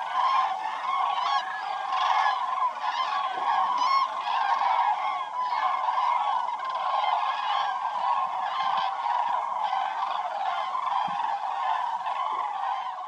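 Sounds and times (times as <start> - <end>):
flock of cranes calling: 0.0 - 13.0.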